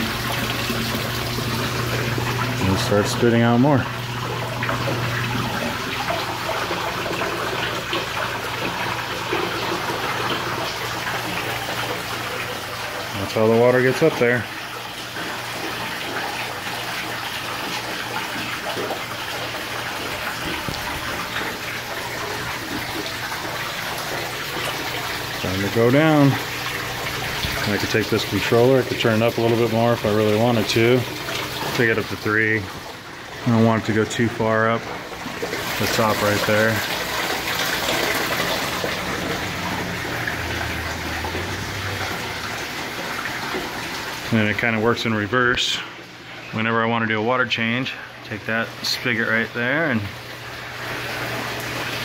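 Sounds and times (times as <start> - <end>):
water splashing into aquarium: 0.0 - 46.4, 48.4 - 52.0
low pump hum: 0.0 - 52.0.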